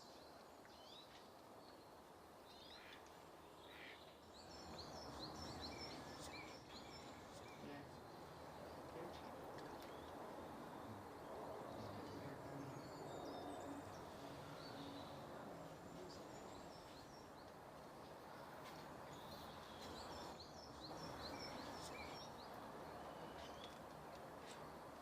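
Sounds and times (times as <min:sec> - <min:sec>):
low steady background noise: 0:00.0 - 0:25.0
songbirds chirping: 0:00.0 - 0:25.0.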